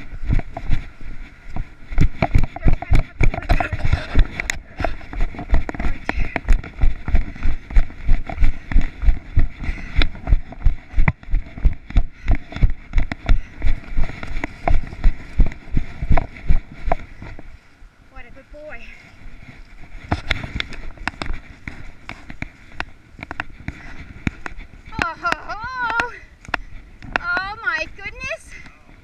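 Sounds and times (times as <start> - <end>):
footsteps on gravel and grass: 0.0 - 28.6.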